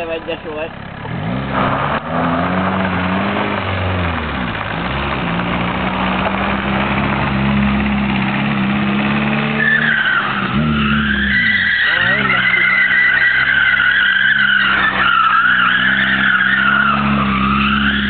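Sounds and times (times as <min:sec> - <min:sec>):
tyres spinning on gravel: 0:00.0 - 0:18.0
car engine revving hard: 0:01.0 - 0:18.0.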